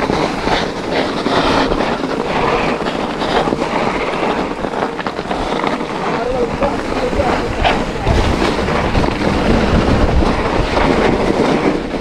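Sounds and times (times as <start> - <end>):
bike rattling over bumps: 0.0 - 12.0
bike tyre rolling noise: 0.0 - 12.0
wind buffeting microphone: 0.0 - 12.0.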